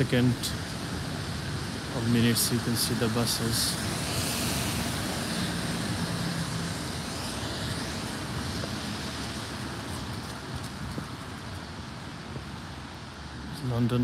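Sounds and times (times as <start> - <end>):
bus engine hum: 0.0 - 14.0
street traffic noise: 0.0 - 14.0
tyres on wet road: 0.0 - 14.0.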